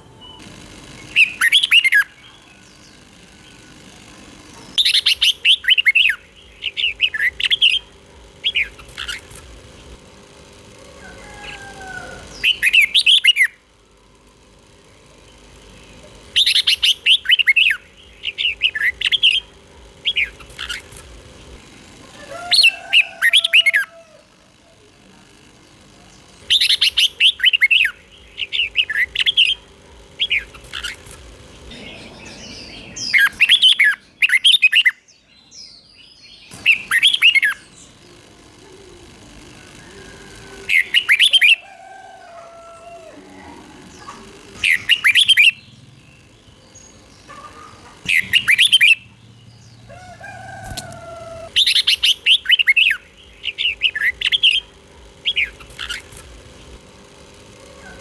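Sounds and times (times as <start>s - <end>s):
bird singing chirpy warbled phrases: 0.0s - 13.8s, 14.7s - 21.7s, 25.6s - 41.6s, 43.1s - 58.0s
faint steady hum: 0.0s - 58.0s.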